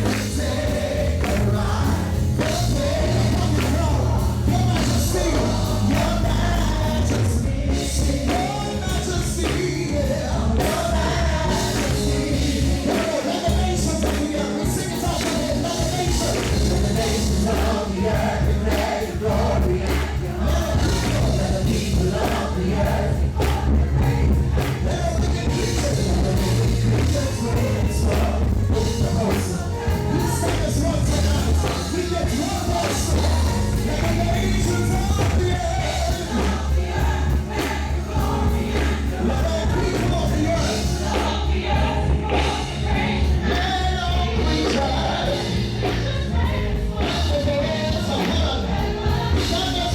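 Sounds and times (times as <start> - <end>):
gospel band with bass and drums: 0.0 - 49.9
group of singers: 0.0 - 49.9.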